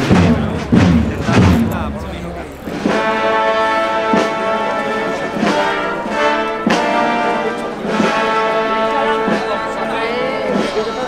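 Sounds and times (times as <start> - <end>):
brass band playing a march: 0.0 - 11.0
percussion strokes: 0.0 - 11.0.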